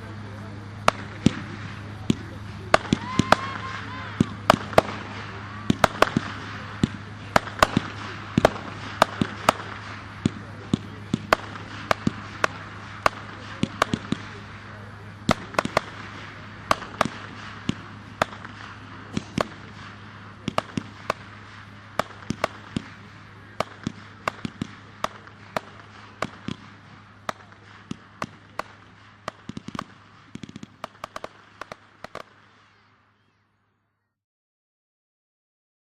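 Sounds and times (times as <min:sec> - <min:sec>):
firework hissing: 0:00.0 - 0:32.8
firework cracks: 0:00.1 - 0:32.9.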